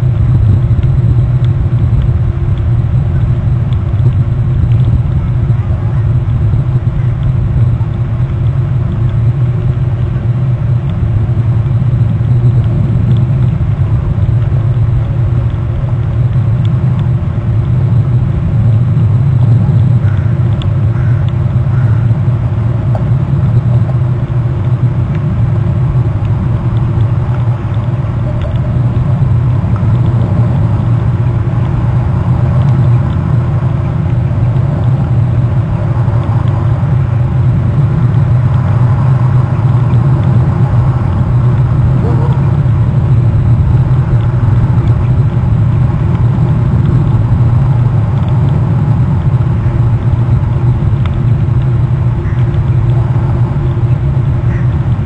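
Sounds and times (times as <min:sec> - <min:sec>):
loud low rumble: 0:00.0 - 0:55.0.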